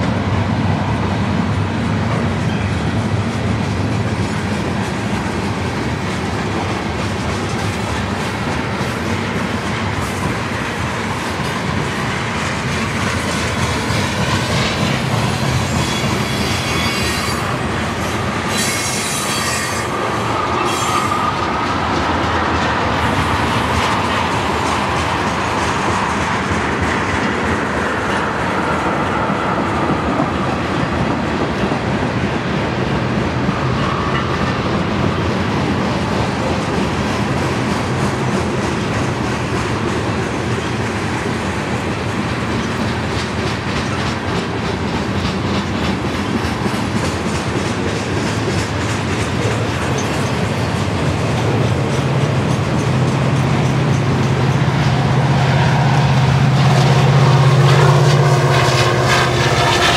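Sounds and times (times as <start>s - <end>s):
clickety-clack over rail joints: 0.0s - 59.9s
diesel locomotive engine drone: 0.0s - 59.9s
train wheels rumbling on rails: 0.0s - 59.9s.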